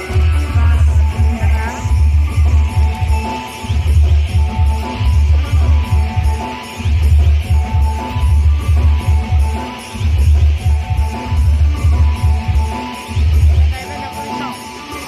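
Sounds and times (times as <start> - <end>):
loud dance music with pounding bass: 0.0 - 15.0.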